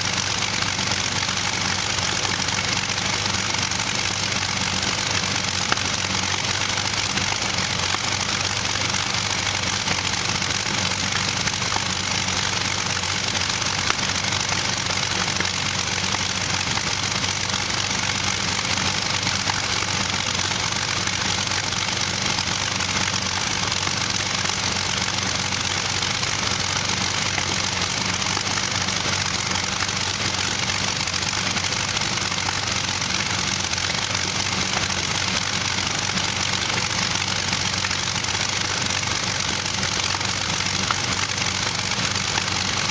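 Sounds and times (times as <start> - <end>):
aircraft engine running steadily: 0.0 - 42.9.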